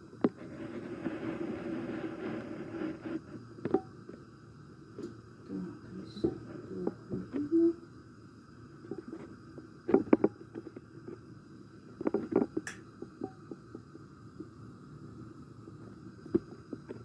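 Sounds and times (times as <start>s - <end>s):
gas burner hissing: 0.0s - 17.0s.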